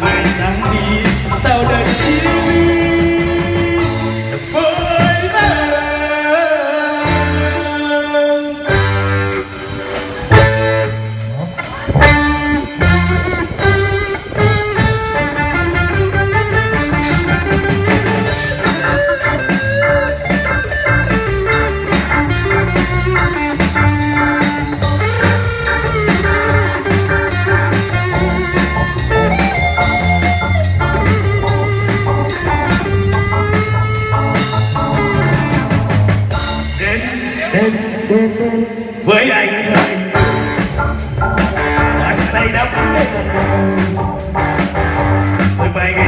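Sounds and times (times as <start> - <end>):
guitar melody: 0.0 - 6.1, 7.0 - 37.6, 40.2 - 46.0
drum kit and bass beat: 0.0 - 38.7, 39.7 - 46.0.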